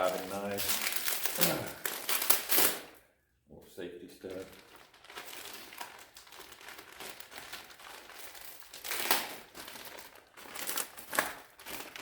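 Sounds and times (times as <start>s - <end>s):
plastic packaging crinkling: 0.0s - 3.0s, 4.2s - 12.0s.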